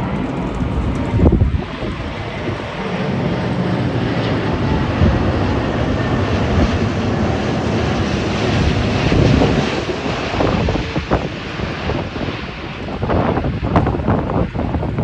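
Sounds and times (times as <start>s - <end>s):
jet airliner passing: 0.0s - 15.0s.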